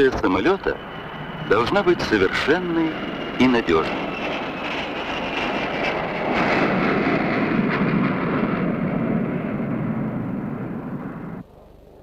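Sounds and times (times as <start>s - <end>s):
jet aircraft flying overhead: 0.0s - 12.0s.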